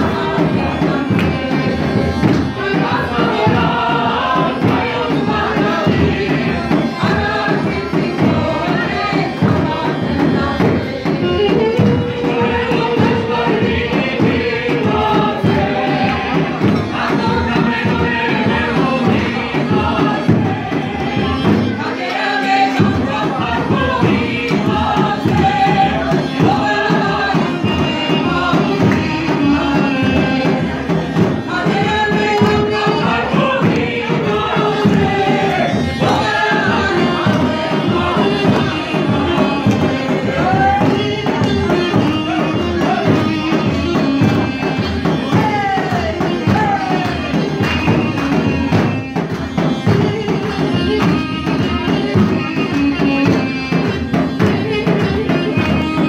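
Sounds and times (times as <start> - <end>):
folk wind pipes playing: 0.0 - 16.3, 16.9 - 56.0
ensemble singing folk music: 0.0 - 56.0.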